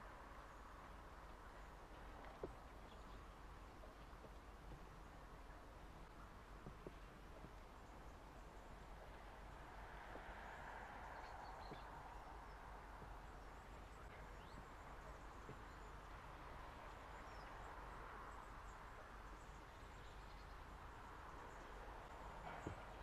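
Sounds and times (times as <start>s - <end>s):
train wagons rolling slowly: 0.0s - 23.0s.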